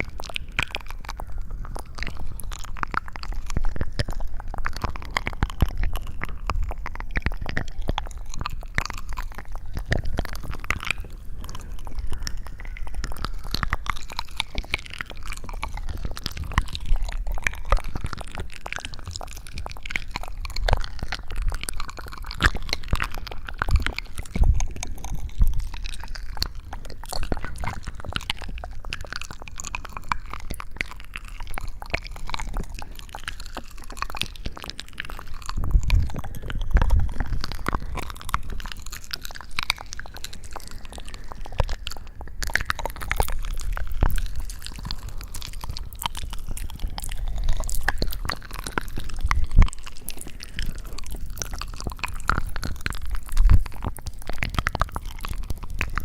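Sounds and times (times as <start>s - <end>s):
wet sticky clicks and crackles: 0.0s - 56.0s.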